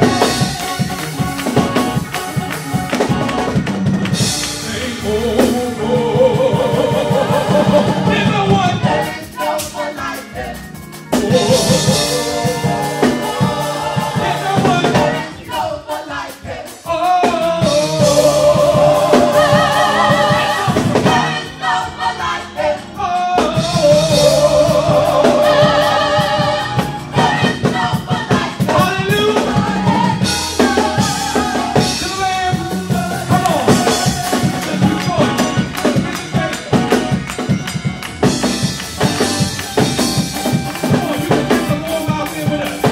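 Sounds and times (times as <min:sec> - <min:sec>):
drum kit: 0:00.0 - 0:42.9
gospel choir singing: 0:00.0 - 0:42.9.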